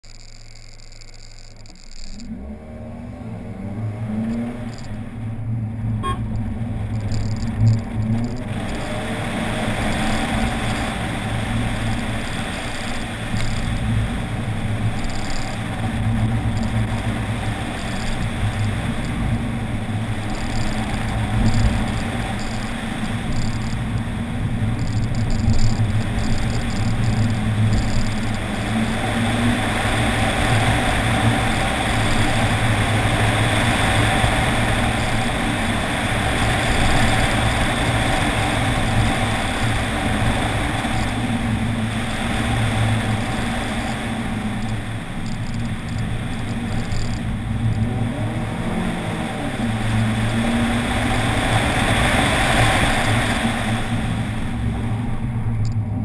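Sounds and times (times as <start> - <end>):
car engine accelerating: 0.0 - 56.0
wind rush on microphone: 5.1 - 56.0.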